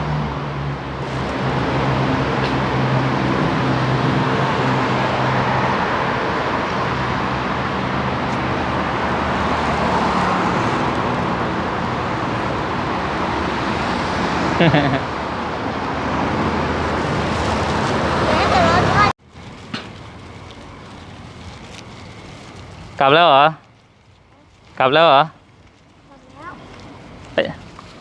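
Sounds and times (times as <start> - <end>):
traffic noise: 0.0 - 28.0
vehicle engine humming: 0.0 - 28.0.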